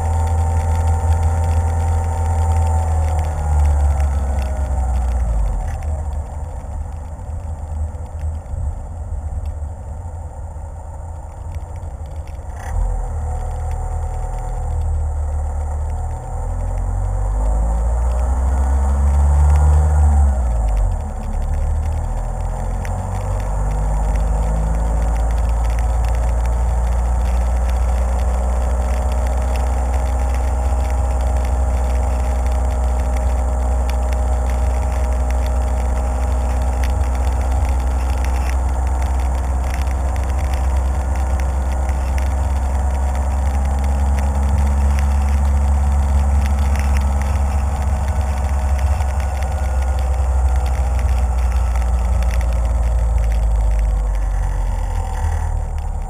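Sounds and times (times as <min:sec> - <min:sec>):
engine and tyre hum: 0:00.0 - 0:56.0
wind and road noise rumble: 0:00.0 - 0:56.0.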